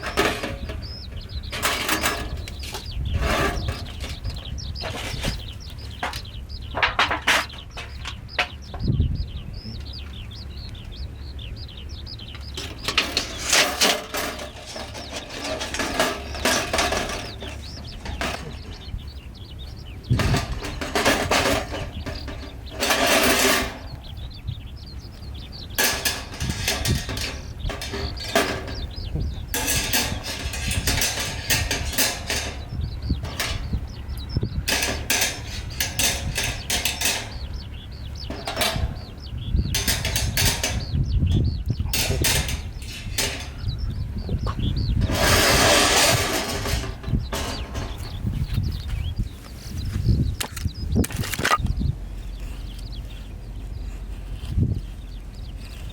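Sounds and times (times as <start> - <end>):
rustling and clattering handling: 0.0 - 8.6, 12.3 - 24.1, 24.8 - 55.9
steady low rumble: 0.0 - 55.9.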